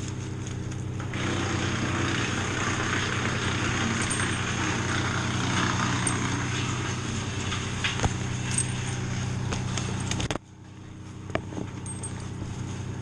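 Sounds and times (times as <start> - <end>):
engine humming with hiss: 0.0 - 13.0.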